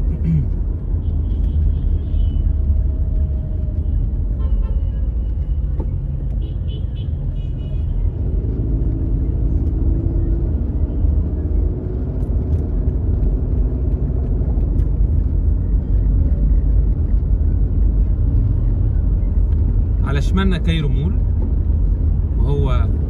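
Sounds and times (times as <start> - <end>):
car driving from inside cabin: 0.0 - 23.0.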